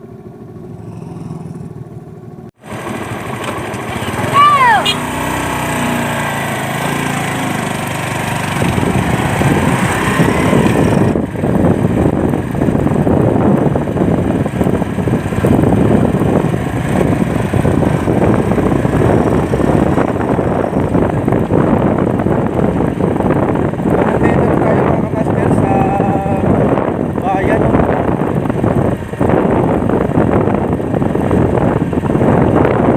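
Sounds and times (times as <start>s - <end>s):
motorcycle engine running: 0.0s - 32.9s
wind buffeting microphone: 3.7s - 32.9s.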